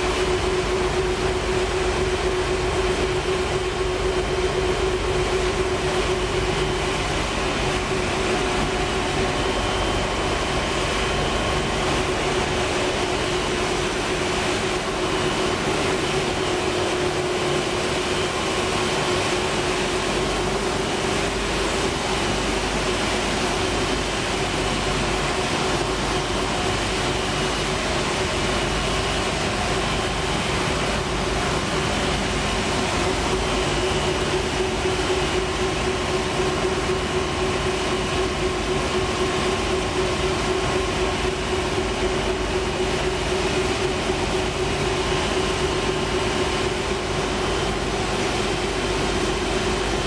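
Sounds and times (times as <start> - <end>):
machinery hum: 0.0 - 50.0.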